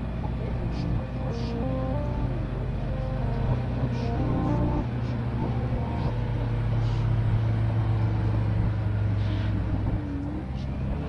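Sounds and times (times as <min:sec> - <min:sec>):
low rumbling drone: 0:00.0 - 0:11.0.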